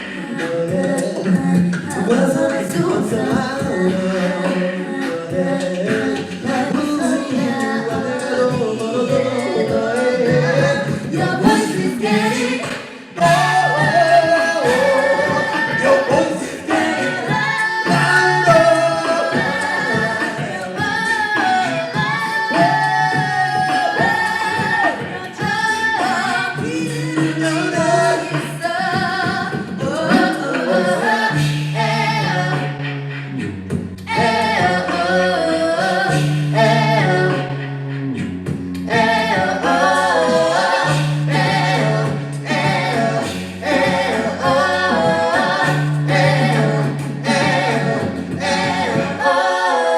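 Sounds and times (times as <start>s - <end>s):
a cappella group singing in harmony: 0.0s - 49.9s.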